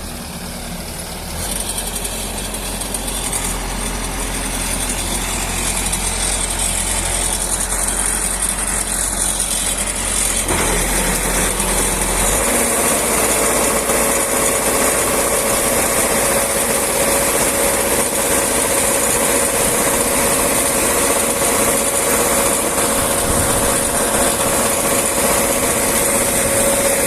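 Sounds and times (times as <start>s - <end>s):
farm machine engine running: 0.0s - 27.0s.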